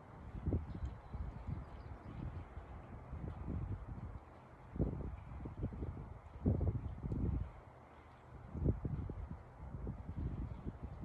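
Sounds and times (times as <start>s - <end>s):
wind buffeting microphone: 0.0s - 7.6s, 8.4s - 11.0s.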